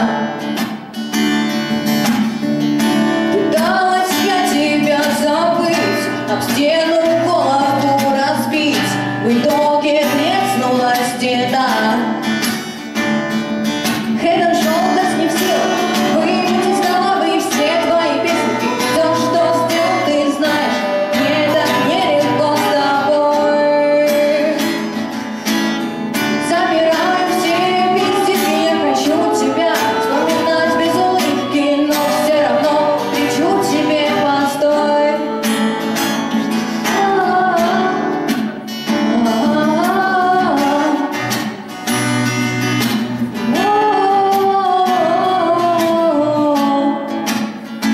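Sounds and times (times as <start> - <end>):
woman singing: 0.0 - 0.6, 2.9 - 13.1, 13.9 - 25.2, 26.2 - 41.7, 43.2 - 47.4
strummed acoustic guitar: 0.0 - 47.9.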